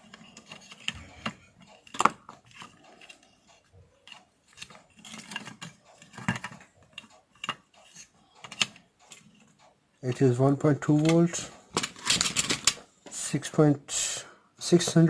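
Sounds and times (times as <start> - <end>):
plastic parts clicking and rustling: 0.0 - 13.2, 14.7 - 15.0.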